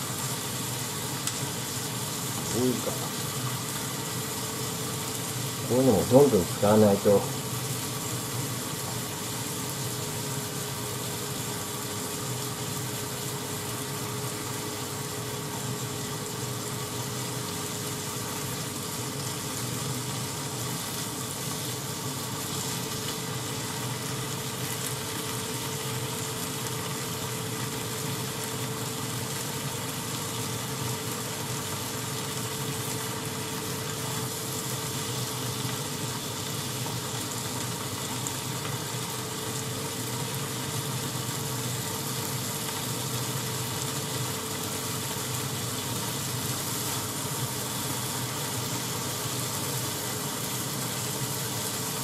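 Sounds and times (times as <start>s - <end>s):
meat and onions sizzling in a pan: 0.0s - 52.0s.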